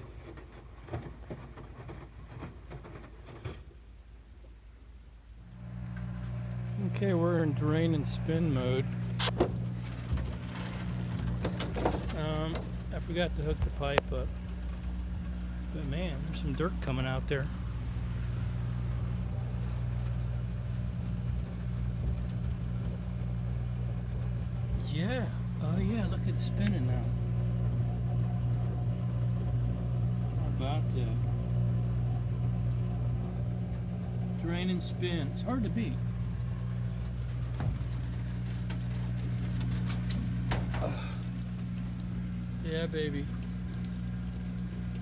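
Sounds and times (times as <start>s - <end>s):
machine humming: 5.4s - 45.0s.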